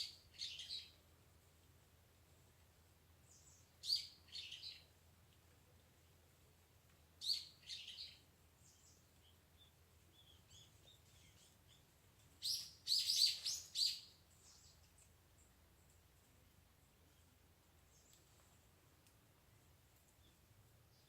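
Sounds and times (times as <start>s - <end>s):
small birds chirping: 0.0s - 1.7s, 2.3s - 21.0s.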